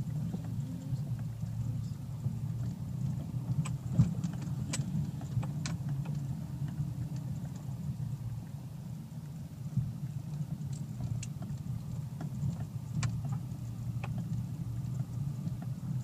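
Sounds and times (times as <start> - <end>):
car knocks and rattles: 0.0 - 8.1, 9.6 - 16.0
diesel engine running low: 0.0 - 16.0.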